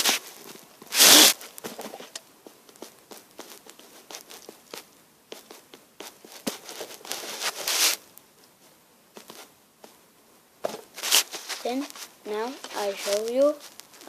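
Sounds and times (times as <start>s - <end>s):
rustling: 0.0s - 10.0s, 10.6s - 14.0s.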